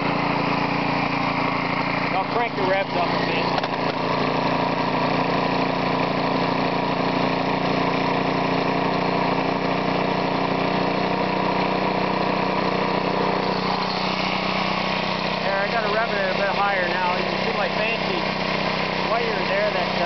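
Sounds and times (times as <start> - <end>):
air compressor pumping: 0.0 - 20.0
lawnmower engine running: 0.0 - 20.0.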